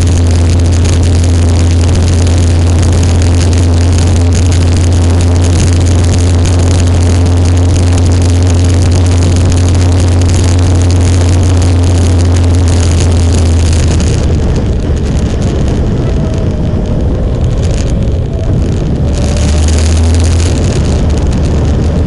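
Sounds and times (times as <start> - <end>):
motorcycle engine roar: 0.0 - 22.0
wind rushing over microphone: 0.0 - 22.0.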